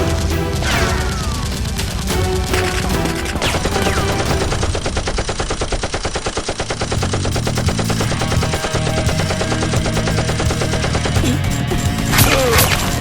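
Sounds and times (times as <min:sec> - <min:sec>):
background music: 0:00.0 - 0:05.6, 0:06.8 - 0:13.0
automatic gunfire: 0:00.0 - 0:11.4.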